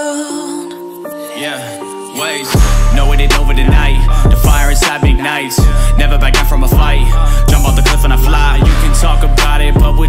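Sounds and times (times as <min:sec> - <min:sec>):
loud music with heavy bass: 0:01.4 - 0:10.0.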